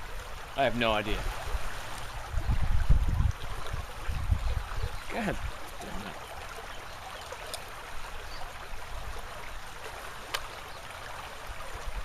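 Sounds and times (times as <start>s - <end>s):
flowing stream water: 0.0s - 12.0s.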